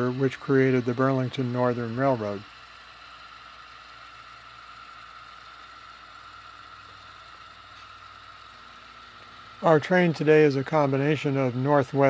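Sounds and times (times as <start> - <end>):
model train hum and whine: 0.0 - 12.0.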